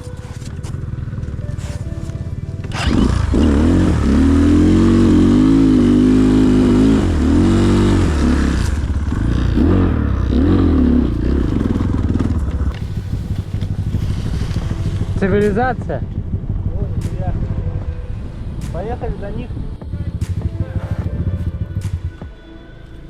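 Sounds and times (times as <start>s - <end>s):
motorcycle engine revving: 0.0s - 22.3s.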